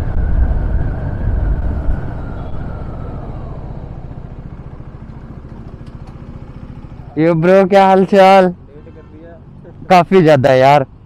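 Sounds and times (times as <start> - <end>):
motorcycle engine: 0.0 - 9.9
low rumble of wind: 0.0 - 11.0.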